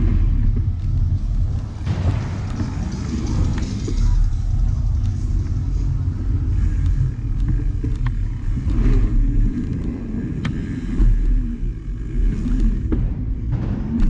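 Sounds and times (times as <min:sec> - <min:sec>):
bicycle tyres rumbling over wood: 0:00.0 - 0:14.0
bike clicks and rattles: 0:00.0 - 0:14.0.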